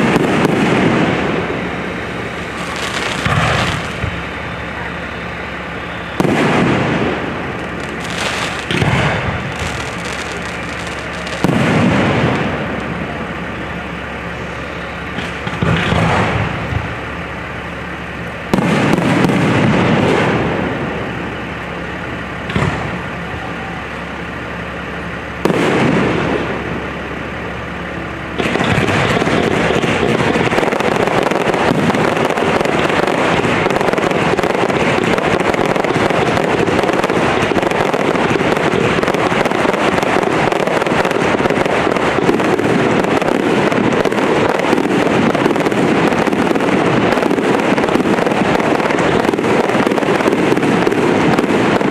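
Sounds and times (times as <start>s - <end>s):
aerial fireworks booming: 0.0s - 51.9s.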